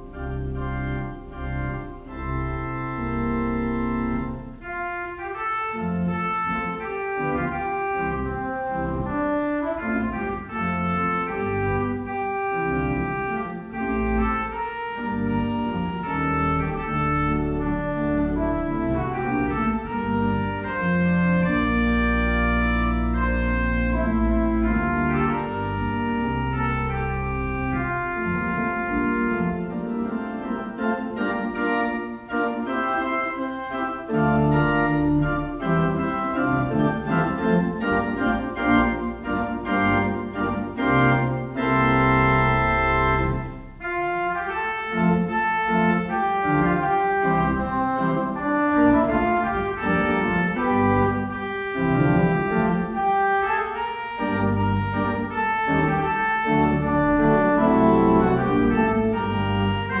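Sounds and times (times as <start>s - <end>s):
church organ chords: 0.0s - 60.0s.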